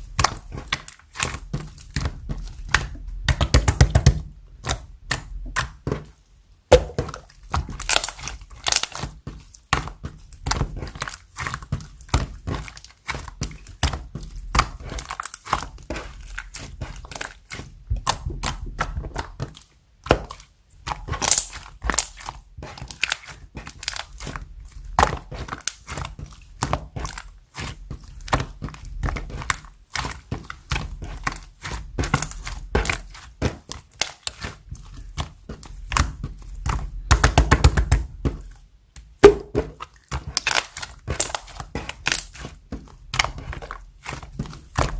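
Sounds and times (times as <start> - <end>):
slime squished by hand: 6.7 - 9.1, 9.7 - 38.2, 39.1 - 44.9.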